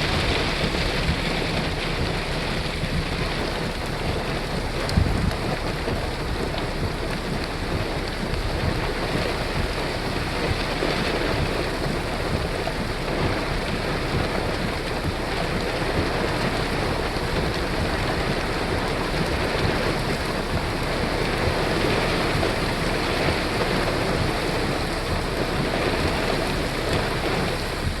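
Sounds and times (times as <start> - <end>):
gusty wind buffeting microphone: 0.0 - 28.0
heavy rain falling: 0.0 - 28.0.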